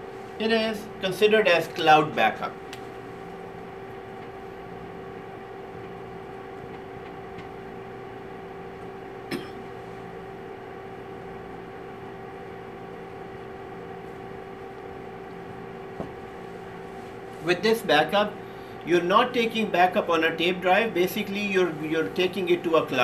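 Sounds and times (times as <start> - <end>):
mechanical room hum: 0.0 - 23.0.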